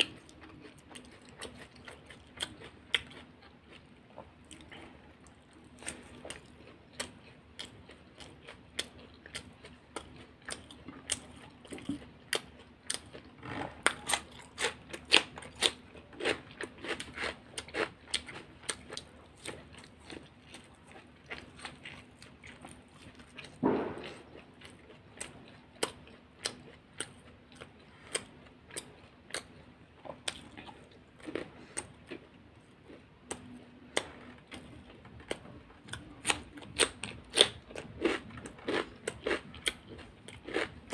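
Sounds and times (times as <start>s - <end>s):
chewing and crunching food: 0.0s - 40.9s.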